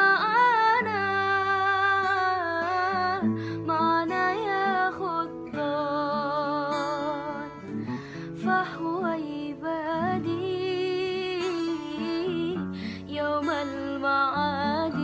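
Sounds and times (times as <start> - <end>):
plucked guitar: 0.0 - 15.0.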